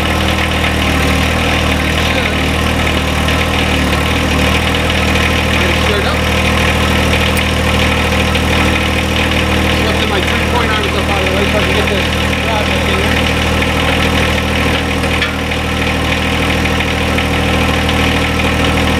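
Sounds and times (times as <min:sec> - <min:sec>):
tractor diesel engine idling: 0:00.0 - 0:18.9.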